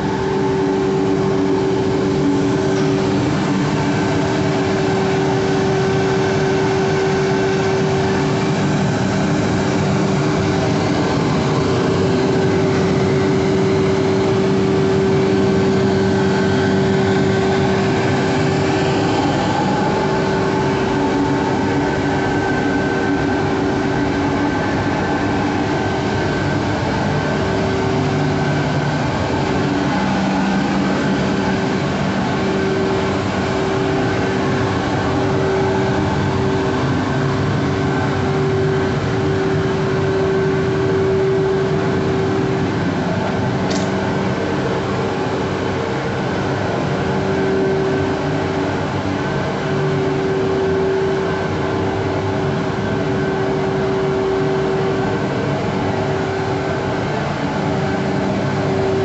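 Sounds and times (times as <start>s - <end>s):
furnace burners droning: 0.0s - 59.0s.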